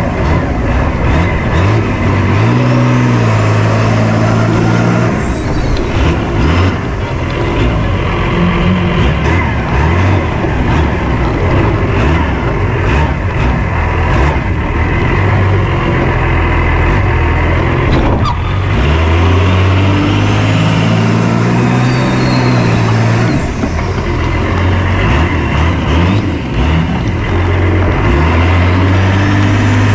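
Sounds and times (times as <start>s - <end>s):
diesel truck engine revving: 0.0s - 29.9s.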